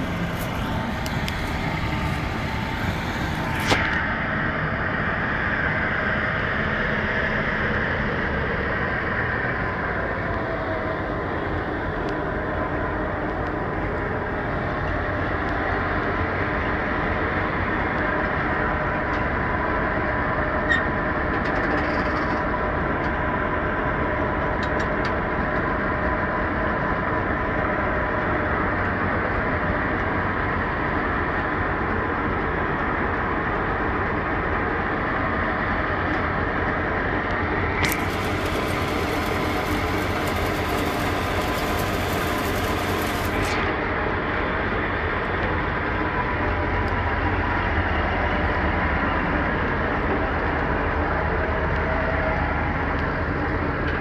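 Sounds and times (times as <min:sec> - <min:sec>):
diesel engine running: 0:00.0 - 0:21.5, 0:22.3 - 0:54.0.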